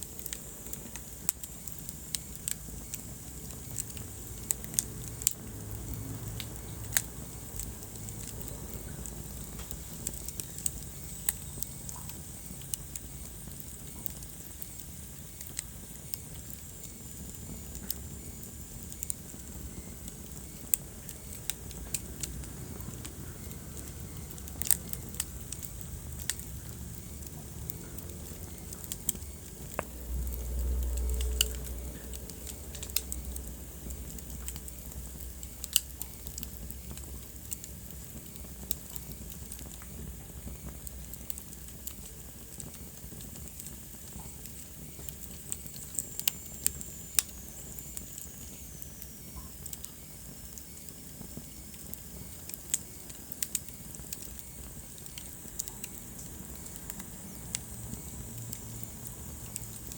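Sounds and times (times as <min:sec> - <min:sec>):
low rumble of fire: 0:00.0 - 0:59.9
wood fire crackling and popping: 0:00.0 - 0:59.9.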